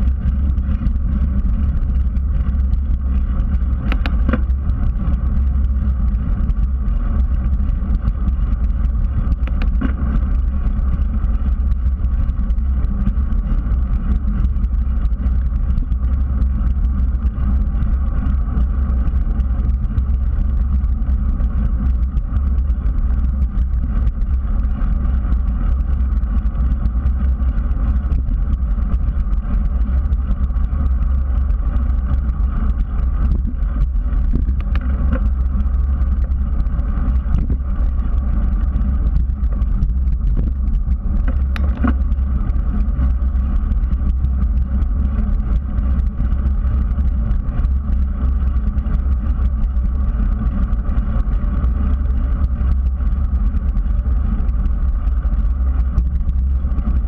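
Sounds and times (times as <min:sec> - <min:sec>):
bicycle tyre noise on pavement: 0:00.0 - 0:57.0
wind rumble: 0:00.0 - 0:57.0.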